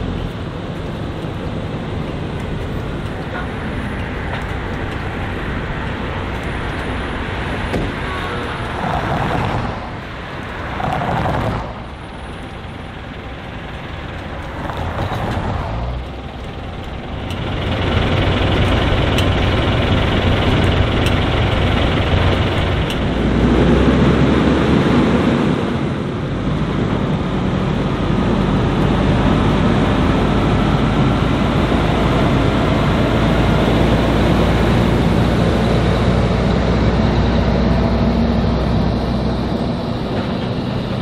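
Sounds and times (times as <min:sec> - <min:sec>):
truck diesel engine running: 0:00.0 - 0:09.2, 0:09.8 - 0:41.0
road vehicles passing: 0:00.0 - 0:41.0.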